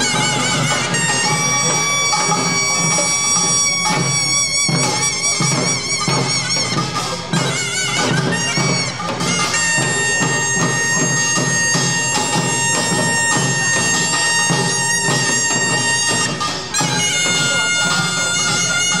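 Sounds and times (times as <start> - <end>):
drums beating: 0.0 - 19.0
shawm playing a wavering melody: 0.0 - 19.0
small gongs clanging: 0.0 - 19.0.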